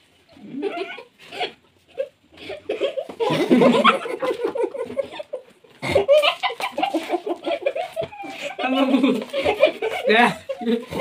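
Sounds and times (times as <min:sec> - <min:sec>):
boys laughing and giggling: 0:00.3 - 0:11.0.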